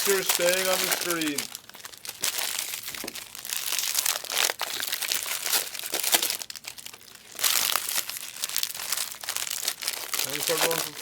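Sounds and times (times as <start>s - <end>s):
foil wrappers crinkling and tearing: 0.0s - 11.0s.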